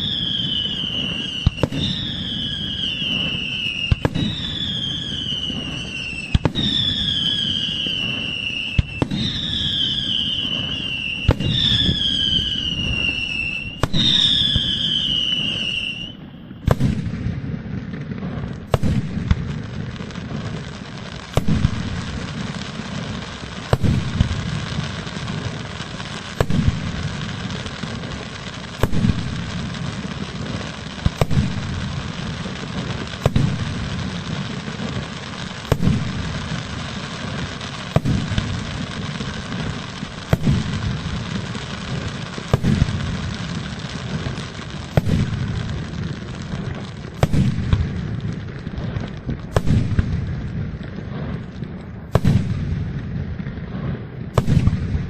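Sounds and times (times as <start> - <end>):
falling firework whistle: 0.0 - 55.0
firework crackle: 0.0 - 55.0
fireworks bangs: 0.0 - 55.0.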